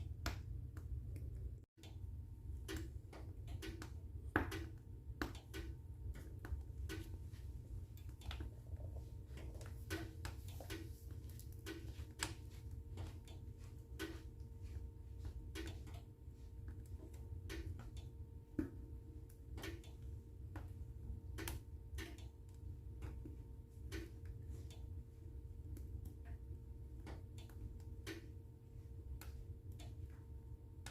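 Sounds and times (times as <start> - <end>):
soft even ticking: 0.0 - 30.9
wood fire crackling: 2.5 - 30.9.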